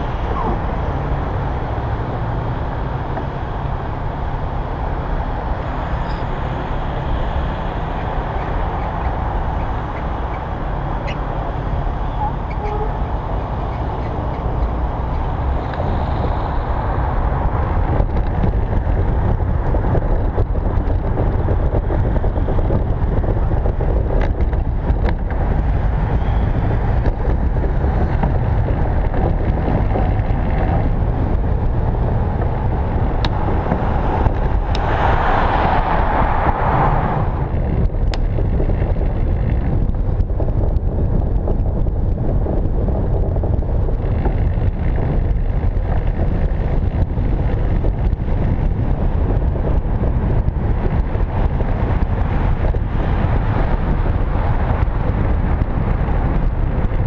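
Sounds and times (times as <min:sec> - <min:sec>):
tyre noise on paving: 0:00.0 - 0:57.0
wind over camera: 0:00.0 - 0:57.0.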